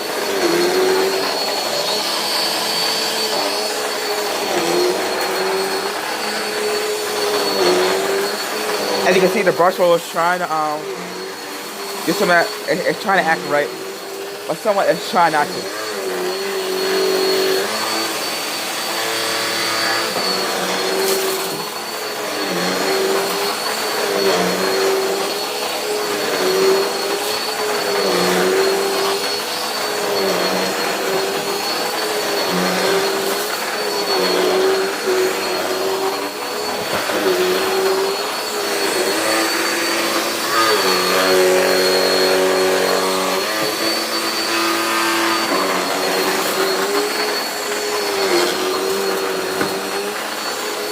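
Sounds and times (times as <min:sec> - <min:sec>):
vacuum cleaner running on carpet: 0:00.0 - 0:50.9.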